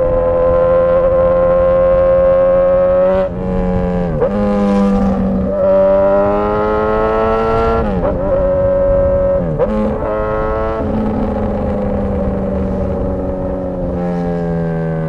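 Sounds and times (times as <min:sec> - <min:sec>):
motorcycle engine running loud: 0:00.0 - 0:15.0.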